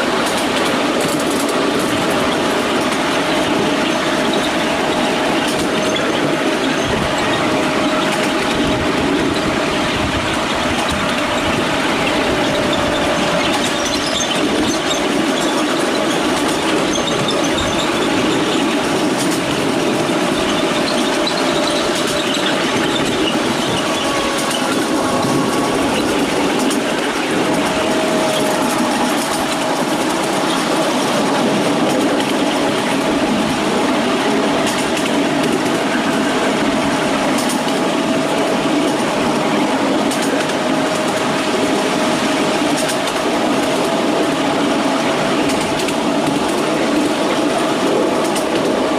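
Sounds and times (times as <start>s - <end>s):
train wheels clattering on rails: 0.0s - 48.9s.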